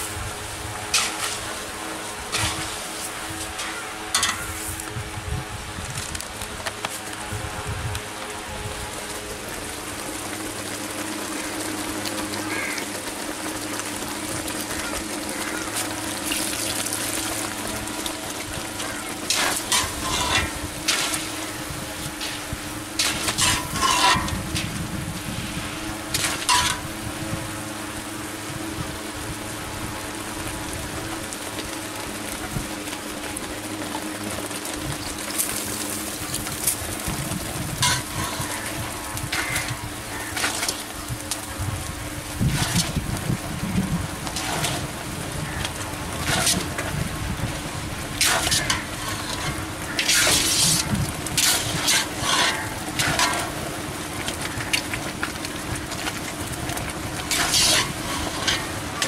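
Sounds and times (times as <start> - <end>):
batter sizzling in hot oil: 0.0 - 6.1, 8.8 - 32.9, 33.6 - 59.0.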